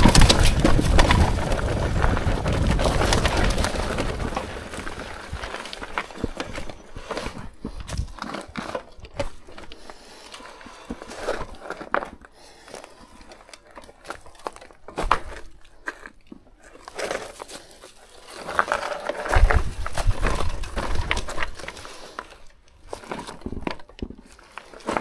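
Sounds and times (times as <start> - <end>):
bike crunching over rough ground: 0.0 - 25.0.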